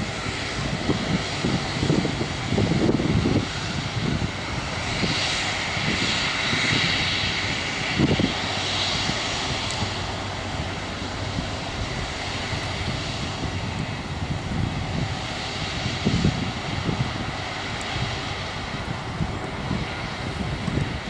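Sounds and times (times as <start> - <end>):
jet engines hissing and whining: 0.0 - 21.0
low rumbling surges: 0.0 - 21.0.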